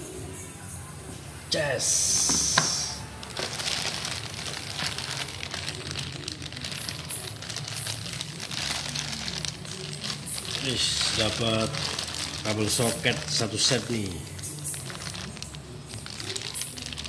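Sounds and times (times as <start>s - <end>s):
plastic bag crinkling: 2.4s - 17.0s.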